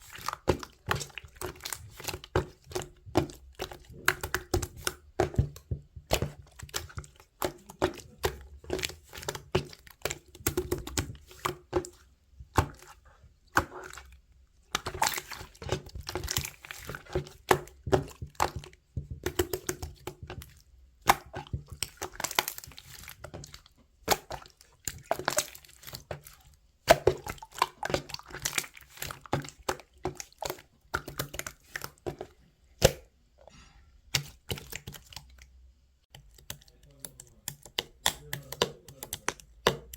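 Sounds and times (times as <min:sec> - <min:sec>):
handling crackling and crinkling: 0:00.0 - 0:32.4, 0:36.1 - 0:39.9.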